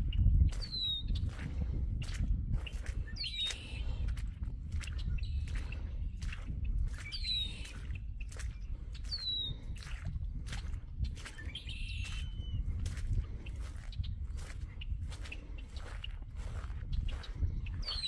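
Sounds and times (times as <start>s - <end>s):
walking footsteps: 0.0s - 18.0s.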